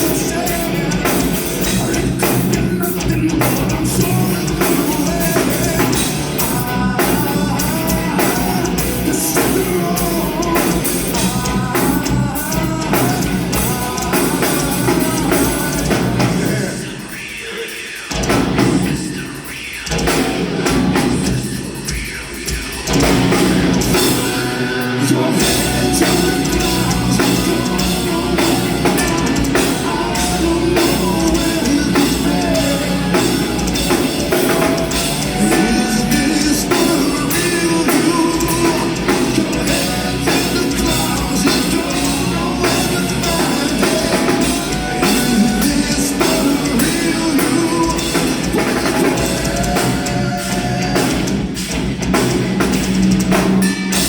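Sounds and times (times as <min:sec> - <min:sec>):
person singing: 0:00.0 - 0:51.7
heavy metal band playing live: 0:00.0 - 0:54.0.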